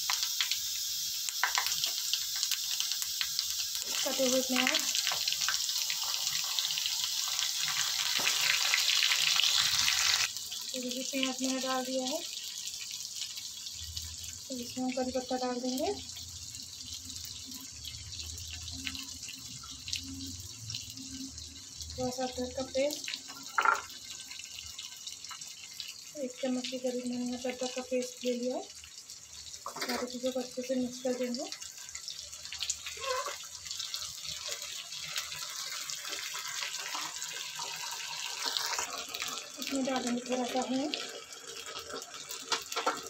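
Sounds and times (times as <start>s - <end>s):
oil popping and crackling: 0.0s - 16.0s, 22.0s - 27.8s, 28.8s - 43.0s
onions sizzling in hot oil: 0.0s - 43.0s.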